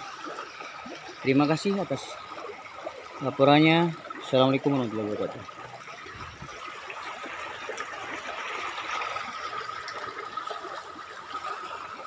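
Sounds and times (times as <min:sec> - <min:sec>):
water rushing along a channel: 0:00.0 - 0:12.0.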